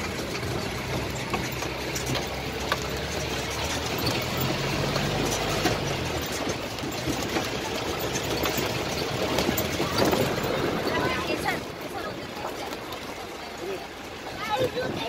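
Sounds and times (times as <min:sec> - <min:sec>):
light knocks and rattles: 0:00.0 - 0:13.2
vehicle engine running: 0:00.0 - 0:15.0.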